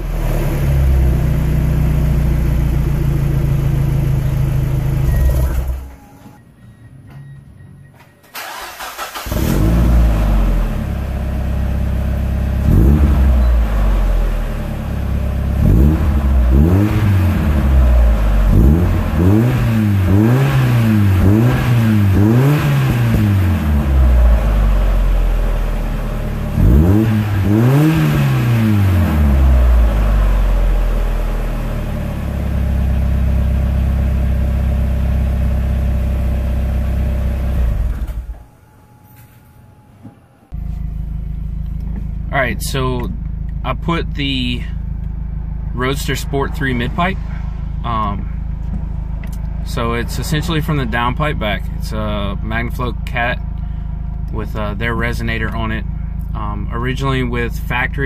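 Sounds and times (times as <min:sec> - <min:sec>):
car engine starting and revving: 0:00.0 - 0:06.1, 0:08.3 - 0:38.5, 0:40.5 - 0:58.0.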